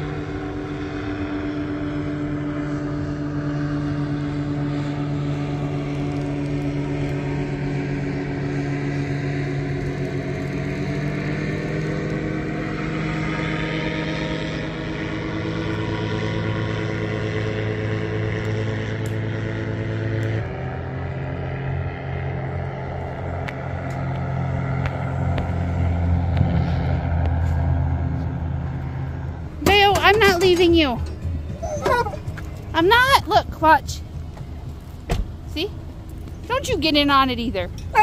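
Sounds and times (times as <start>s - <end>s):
ship engines droning: 0.0s - 38.0s.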